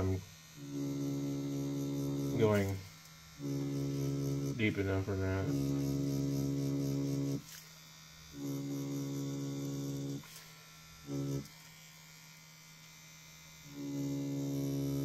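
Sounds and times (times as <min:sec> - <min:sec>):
tattoo machine buzzing: 0:00.0 - 0:15.0.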